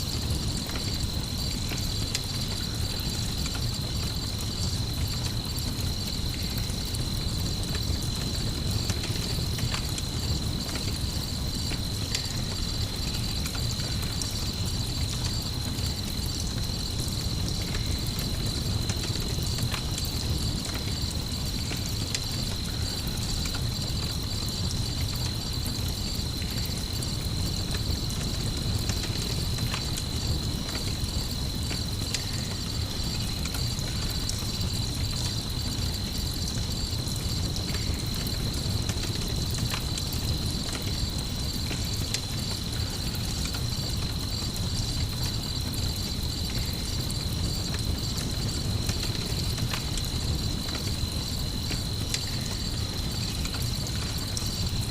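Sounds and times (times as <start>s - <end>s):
campfire crackling: 0.0s - 54.9s
crickets chirping: 0.0s - 54.9s.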